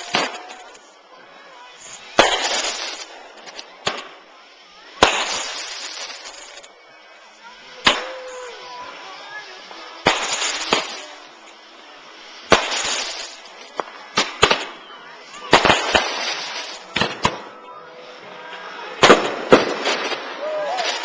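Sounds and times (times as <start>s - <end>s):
fireworks bursting with crackling: 0.0s - 21.0s.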